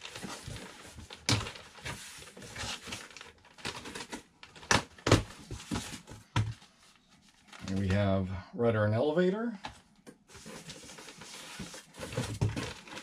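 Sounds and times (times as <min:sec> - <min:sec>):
cardboard rustling: 0:00.0 - 0:08.1, 0:10.3 - 0:13.0.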